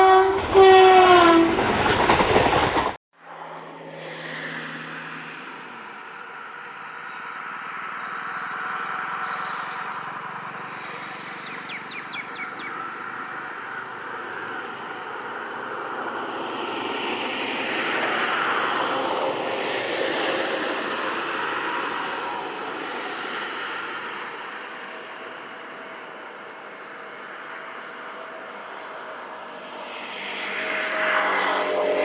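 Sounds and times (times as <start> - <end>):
train rumbling past: 0.0 - 5.8, 9.8 - 32.0.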